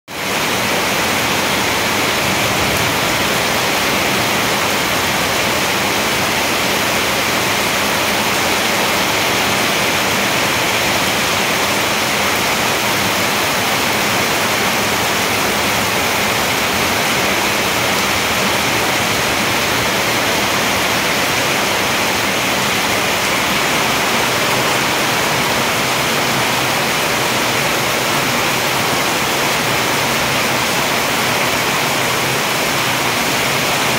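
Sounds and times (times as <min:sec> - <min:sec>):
heavy rain on leaves and roof: 0:00.1 - 0:33.9
water streaming off roof: 0:00.1 - 0:33.9.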